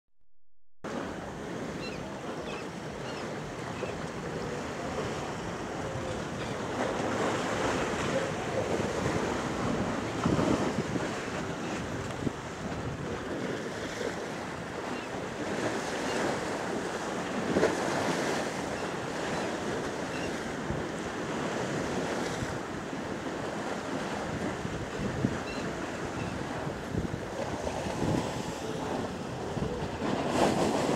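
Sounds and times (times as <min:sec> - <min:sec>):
waves washing against rocky shore: 0:00.9 - 0:30.9
wind buffeting microphone: 0:00.9 - 0:30.9.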